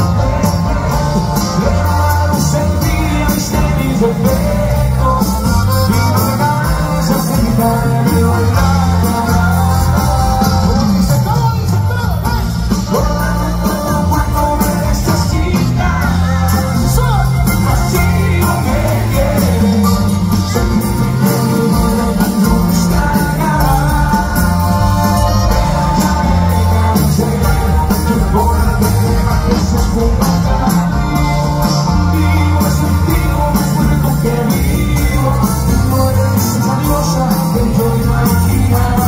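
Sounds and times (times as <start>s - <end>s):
button accordion: 0.0s - 39.0s
live band through pa: 0.0s - 39.0s.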